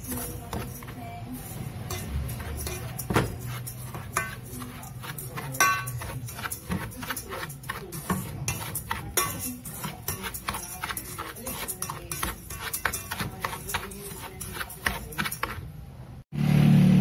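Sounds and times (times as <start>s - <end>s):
spoon scraping metal pot: 0.0s - 15.8s.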